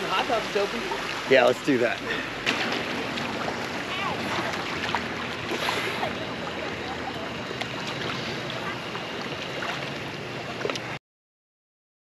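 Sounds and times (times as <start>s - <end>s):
pool water churning and splashing: 0.0s - 11.0s.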